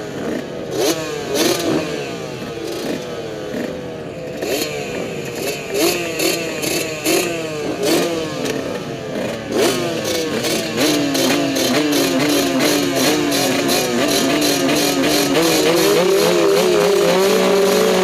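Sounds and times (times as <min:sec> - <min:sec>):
motocross bike revving: 0:00.0 - 0:18.0.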